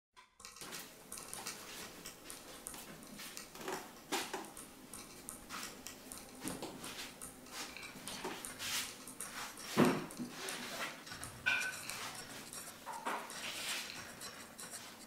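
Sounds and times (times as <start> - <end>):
irregular clicks and taps: 0.2 - 15.0.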